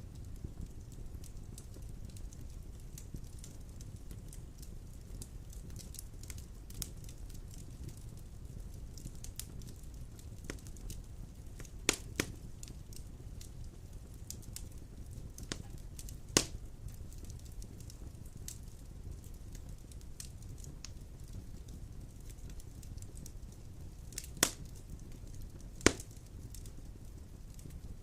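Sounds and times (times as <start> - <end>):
low rumble of flame: 0.0 - 28.0
wood fire crackles and pops: 0.0 - 28.0.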